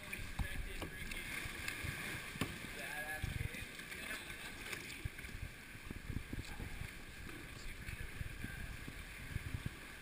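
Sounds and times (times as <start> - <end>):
water lapping against kayaks: 0.0 - 10.0.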